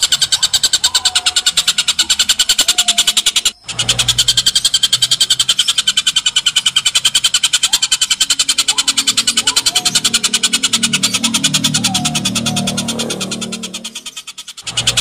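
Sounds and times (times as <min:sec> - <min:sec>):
bird harsh chattering call: 0:00.0 - 0:15.0.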